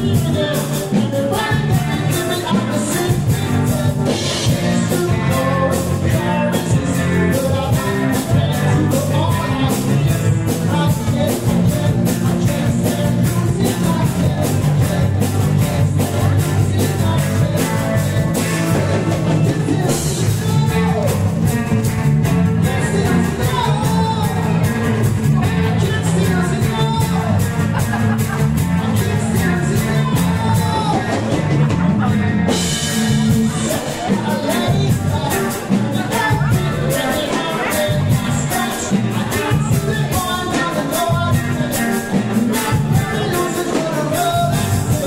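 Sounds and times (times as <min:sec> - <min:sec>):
loud music with singing: 0:00.0 - 0:45.0
steady drum beat: 0:00.0 - 0:45.0.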